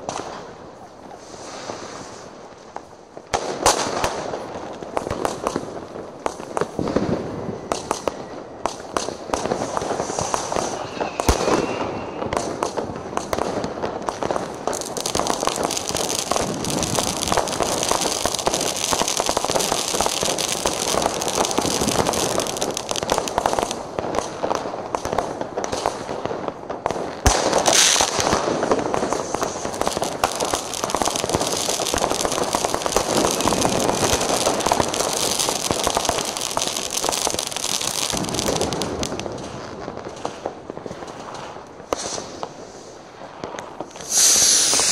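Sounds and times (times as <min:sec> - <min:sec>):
firecrackers crackling: 0:00.0 - 0:44.9.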